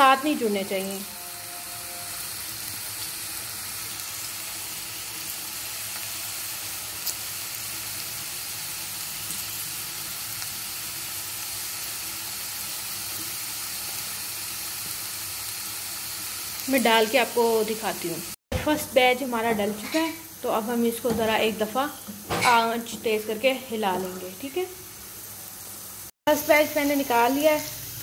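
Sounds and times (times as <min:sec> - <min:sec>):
potato sticks sizzling in oil: 0:00.0 - 0:28.0.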